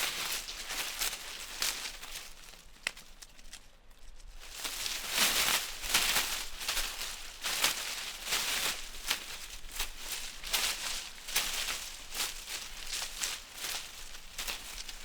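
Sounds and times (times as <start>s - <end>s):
leaves rustling in the wind: 0.0s - 15.0s.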